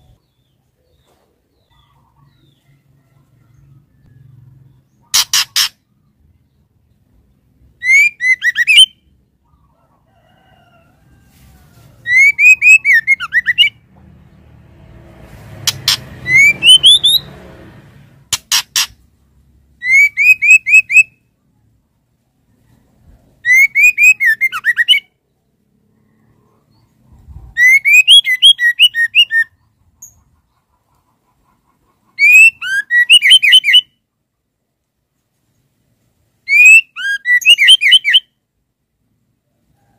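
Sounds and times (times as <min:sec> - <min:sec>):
bird chirping: 0:00.0 - 0:09.9, 0:12.0 - 0:14.7, 0:15.5 - 0:21.7, 0:22.5 - 0:34.0, 0:36.4 - 0:38.4.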